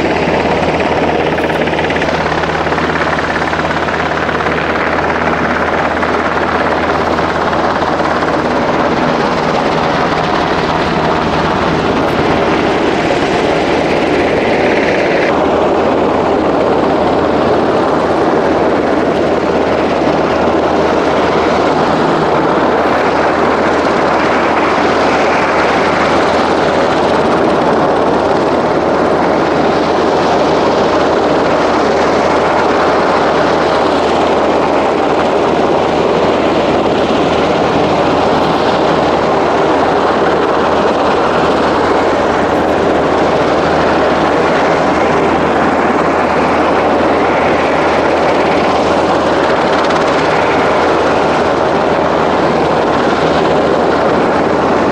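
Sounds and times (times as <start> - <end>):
helicopter hovering overhead: 0.0 - 54.9.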